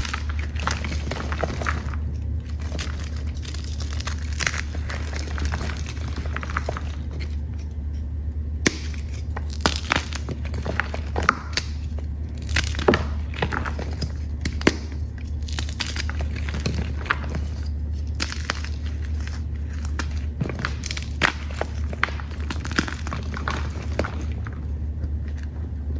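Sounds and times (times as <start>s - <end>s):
chalk crunching and cracking: 0.0s - 25.8s
steady low hum: 0.0s - 25.9s.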